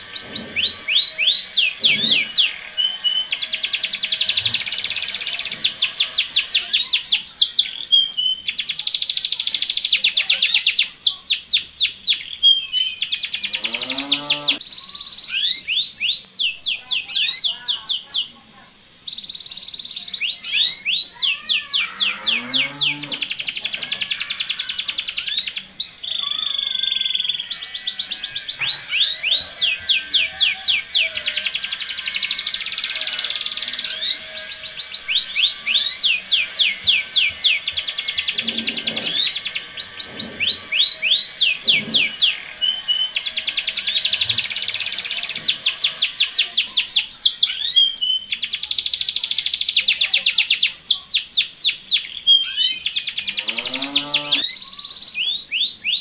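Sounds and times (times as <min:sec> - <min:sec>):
female canary calls: 0:00.0 - 0:18.7, 0:20.0 - 0:56.0
canary singing trills: 0:00.0 - 0:56.0.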